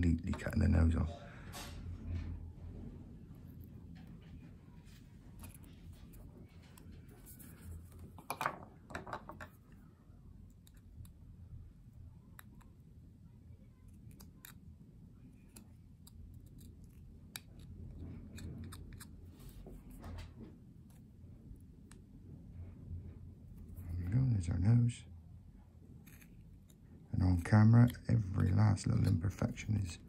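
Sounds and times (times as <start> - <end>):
faint low rumble: 0.0 - 8.2, 9.6 - 30.0.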